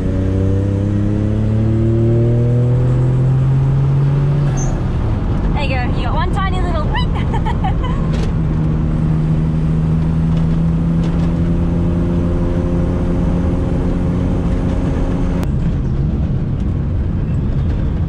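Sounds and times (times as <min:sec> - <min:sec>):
car engine pulling: 0:00.0 - 0:18.0
road noise: 0:00.0 - 0:18.0.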